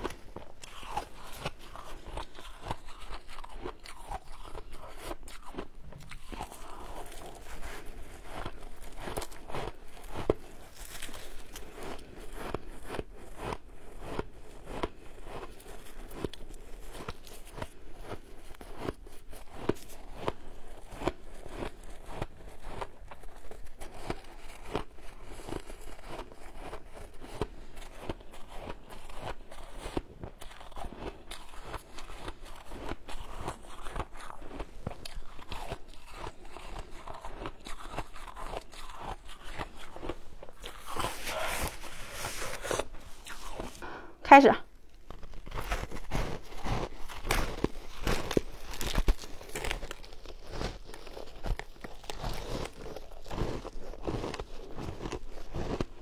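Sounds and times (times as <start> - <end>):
shaved ice being chewed: 0.0 - 56.0.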